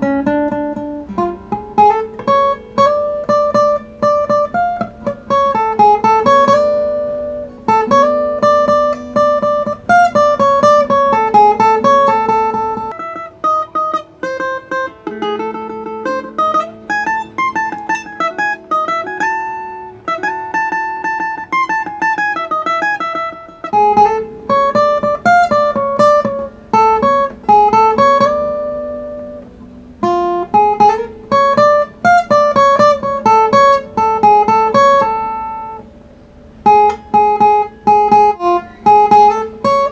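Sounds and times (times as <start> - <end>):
plucked string melodic runs: 0.0 - 39.9.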